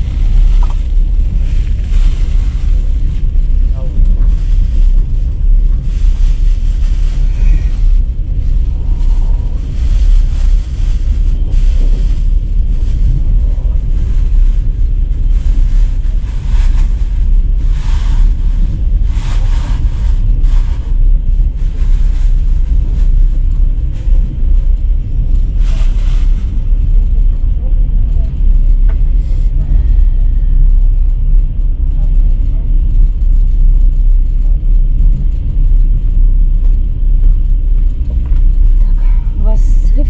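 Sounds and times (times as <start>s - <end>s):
vehicle rumble: 0.0s - 40.0s
wind buffeting microphone: 0.0s - 40.0s.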